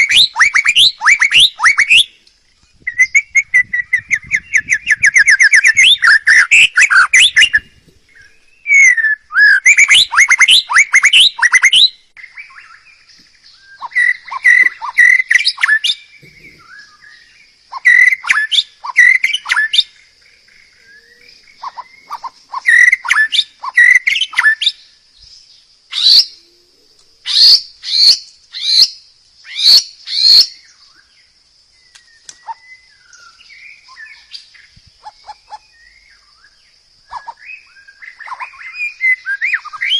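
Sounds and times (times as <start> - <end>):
songbird singing: 0.0 - 39.9
steady high-pitched hiss: 0.0 - 39.9.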